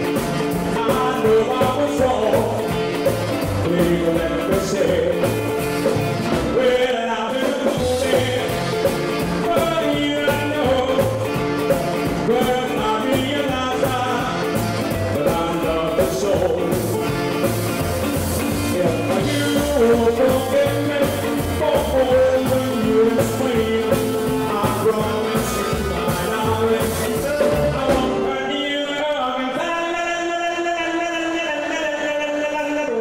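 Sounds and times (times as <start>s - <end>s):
rock and roll band playing: 0.0s - 33.0s.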